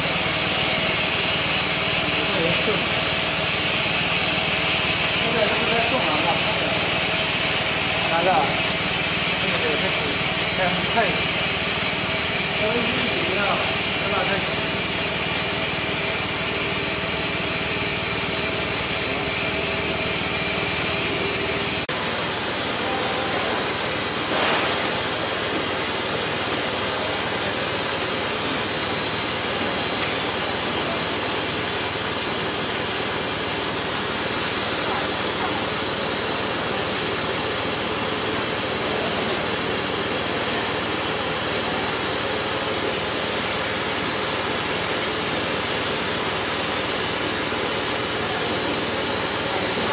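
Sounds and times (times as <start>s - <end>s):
machine running: 0.0s - 49.9s.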